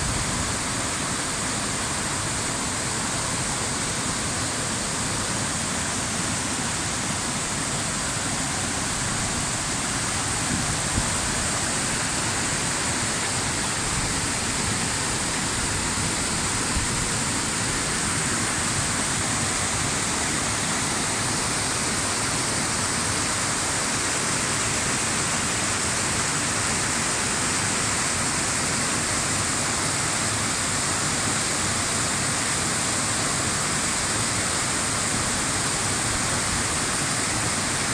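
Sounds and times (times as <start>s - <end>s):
stream cascading over boulders: 0.0s - 37.9s.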